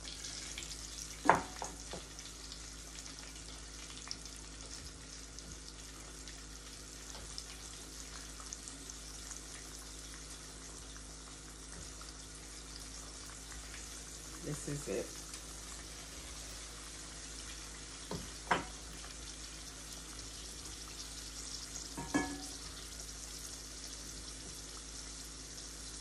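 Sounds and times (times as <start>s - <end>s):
deep-frying sizzle and crackles: 0.0s - 26.0s
low steady hum: 0.0s - 26.0s.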